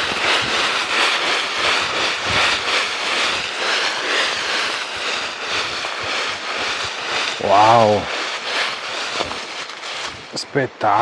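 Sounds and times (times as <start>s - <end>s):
footsteps crunching through dry leaves: 0.0s - 11.0s.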